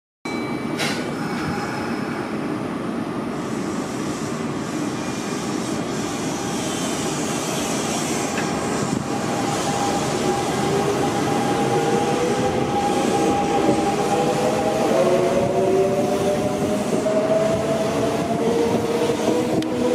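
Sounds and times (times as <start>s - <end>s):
electric train rumble: 0.8s - 19.9s.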